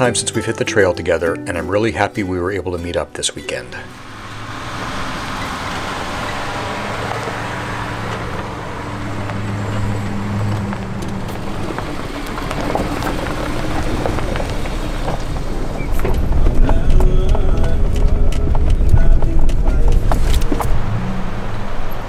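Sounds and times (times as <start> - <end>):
tyres crunching on gravel: 3.6 - 22.0
pickup truck engine passing: 3.7 - 22.0.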